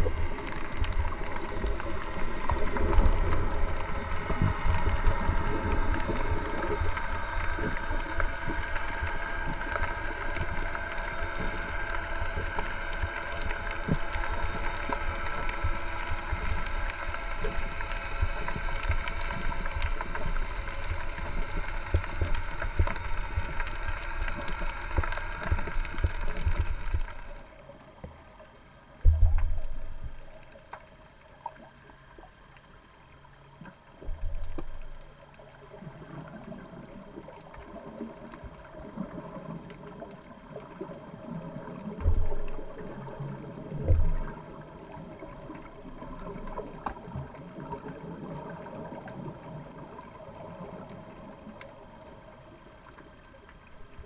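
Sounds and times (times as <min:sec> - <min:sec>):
underwater rush with hum: 0:00.0 - 0:54.0.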